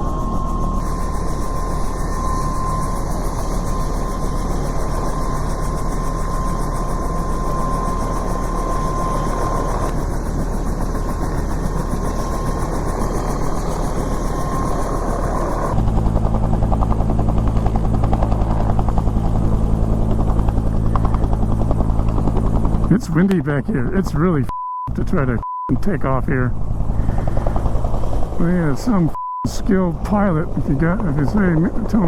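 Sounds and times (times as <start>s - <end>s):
helicopter rotor thudding: 0.0s - 24.4s, 25.0s - 32.0s
helicopter engine whine: 0.0s - 32.0s.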